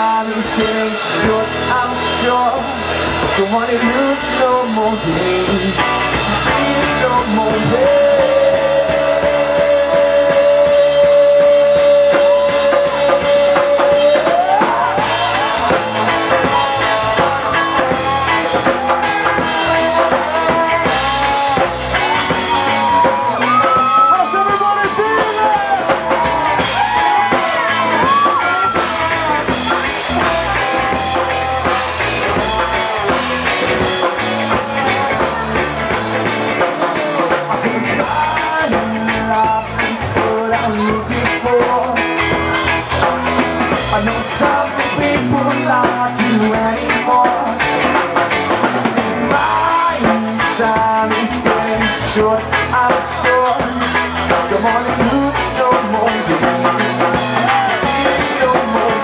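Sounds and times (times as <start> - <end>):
electric guitar lead bending notes: 0.0 - 59.0
live reggae band: 0.0 - 59.0.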